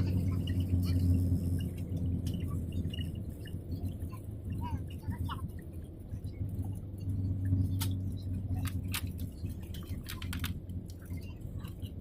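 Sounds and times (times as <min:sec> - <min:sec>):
airliner engine drone: 0:00.0 - 0:12.0.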